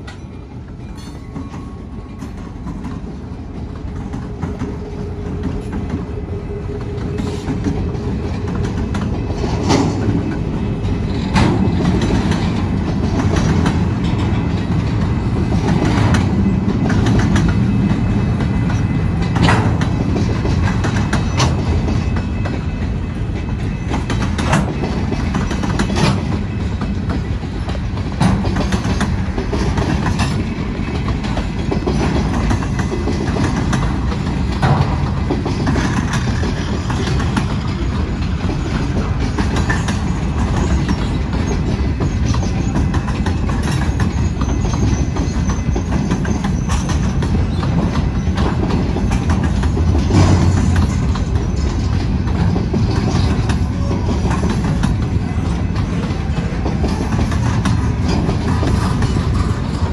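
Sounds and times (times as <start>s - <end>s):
train rumbling past: 0.0s - 59.9s
train wheels clacking over rail joints: 0.0s - 59.9s.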